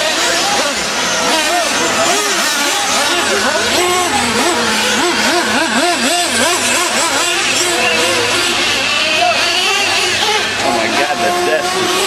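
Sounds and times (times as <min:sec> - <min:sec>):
small engines revving: 0:00.0 - 0:12.0.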